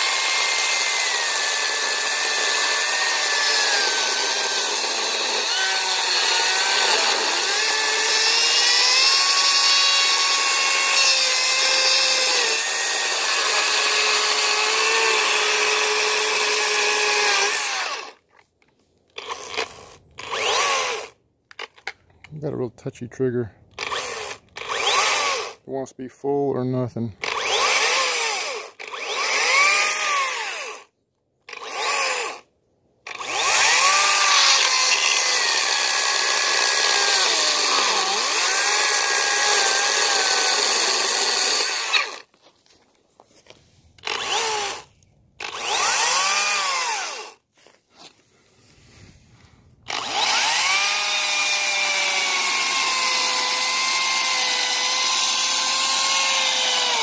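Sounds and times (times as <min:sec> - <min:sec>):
chainsaw cutting wood: 0:00.0 - 0:18.3, 0:19.1 - 0:22.0, 0:23.8 - 0:25.6, 0:27.2 - 0:42.5, 0:44.0 - 0:48.2, 0:49.8 - 0:57.0.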